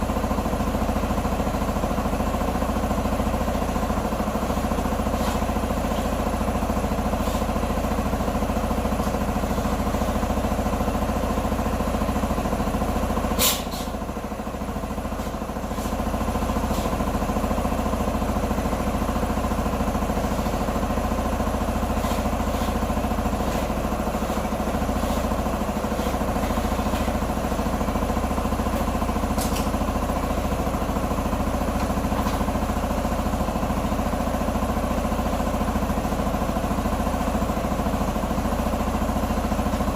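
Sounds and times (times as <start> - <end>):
motorbike engine idling: 0.0 - 39.9.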